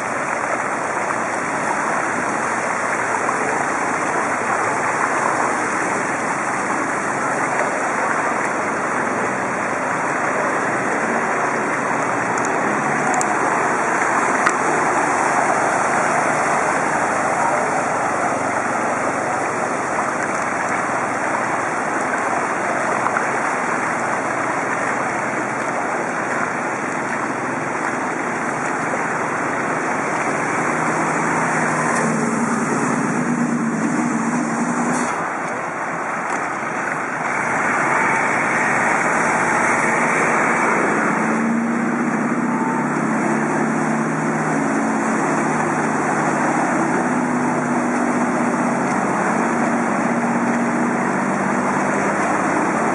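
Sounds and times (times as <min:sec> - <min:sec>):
bus driving through floodwater: 0:00.0 - 0:52.9
vehicle engine humming low: 0:00.0 - 0:52.9.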